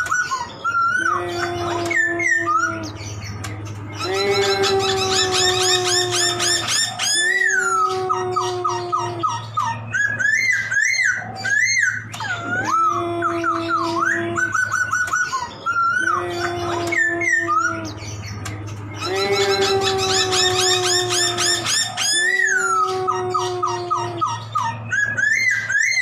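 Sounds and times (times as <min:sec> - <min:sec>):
bird singing whistled song: 0:00.0 - 0:26.0
steady held drone tone: 0:00.0 - 0:26.0.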